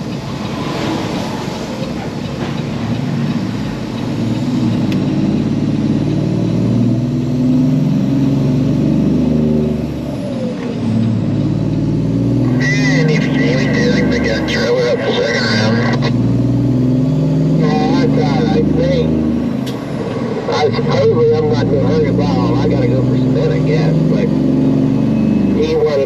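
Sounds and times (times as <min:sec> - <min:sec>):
truck diesel engine pulling: 0:00.0 - 0:26.0.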